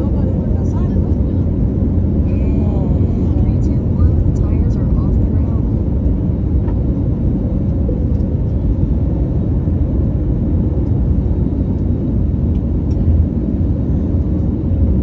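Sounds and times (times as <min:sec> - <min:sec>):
airliner engine rumble: 0:00.0 - 0:15.0
faint steady hum: 0:00.0 - 0:15.0.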